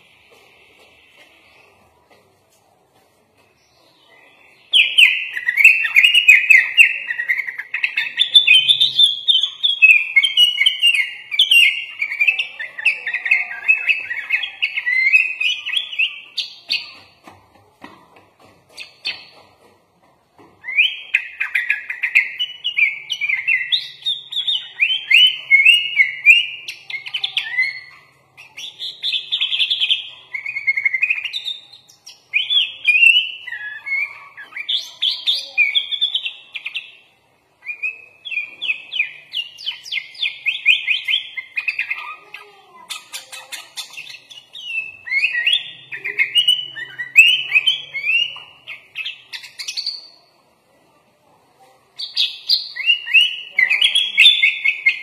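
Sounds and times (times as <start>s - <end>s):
bulbul singing: 3.5s - 17.3s, 20.4s - 50.4s, 52.0s - 55.0s.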